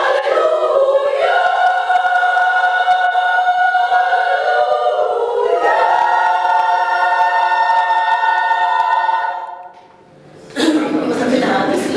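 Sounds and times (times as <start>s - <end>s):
women's choir singing a cappella: 0.0s - 10.0s.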